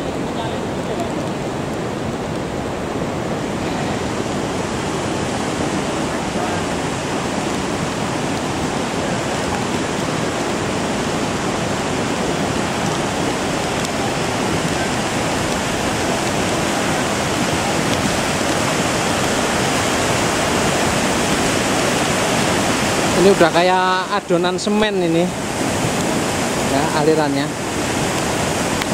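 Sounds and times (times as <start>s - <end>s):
lahar roaring down river channel: 0.0s - 28.9s.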